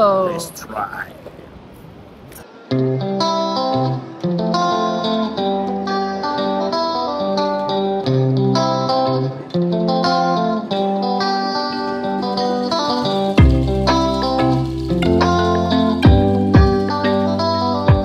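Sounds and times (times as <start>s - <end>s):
plucked strings tune: 2.7s - 18.0s.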